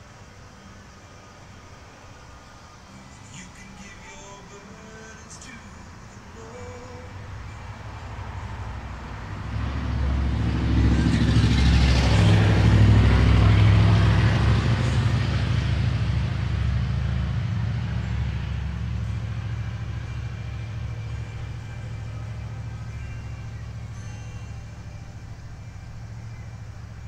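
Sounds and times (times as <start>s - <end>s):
large vehicle engine passing: 0.0s - 27.0s.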